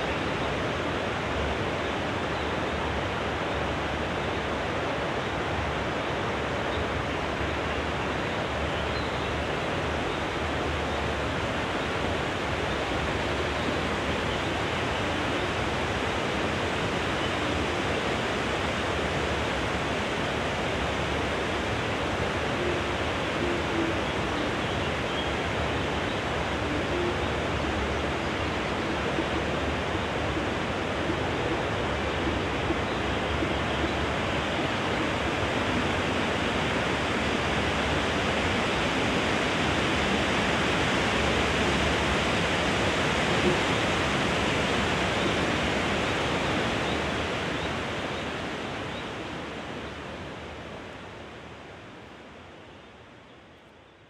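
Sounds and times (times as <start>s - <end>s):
wind rustling tree leaves: 0.0s - 54.0s.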